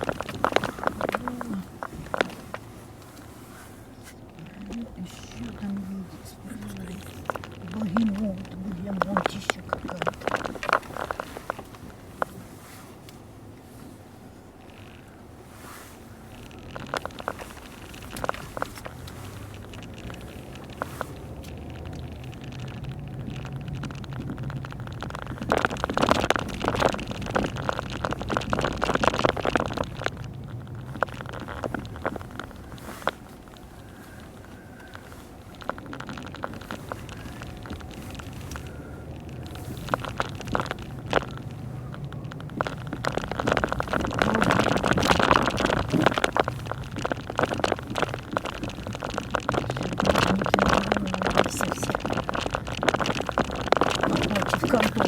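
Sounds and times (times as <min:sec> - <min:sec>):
loud crackling and pattering: 0:00.0 - 0:03.3, 0:04.0 - 0:12.5, 0:16.2 - 0:55.0
car cabin hum: 0:00.0 - 0:55.0.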